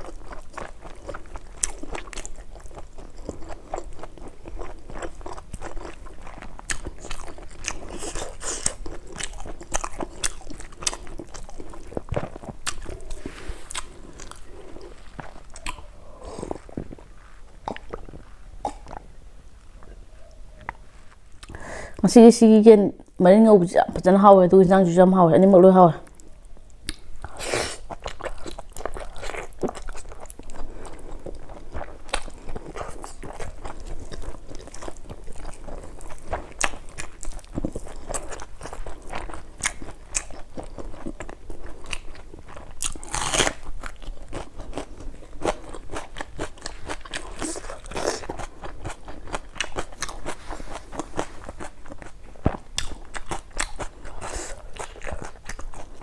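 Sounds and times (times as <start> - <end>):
chewing and crunching food: 0.0 - 21.7, 26.0 - 56.0.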